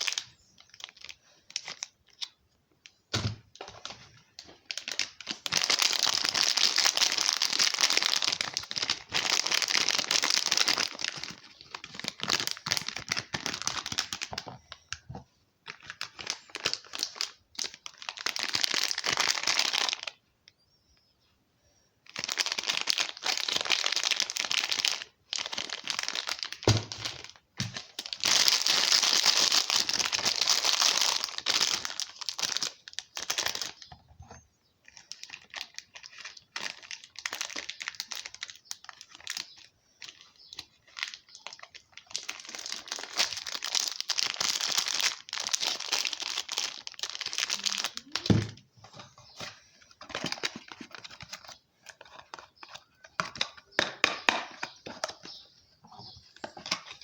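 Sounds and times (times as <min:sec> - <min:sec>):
soap packaging crinkling and tearing: 0:00.0 - 0:15.1, 0:15.7 - 0:20.2, 0:22.1 - 0:34.0, 0:34.8 - 0:57.0.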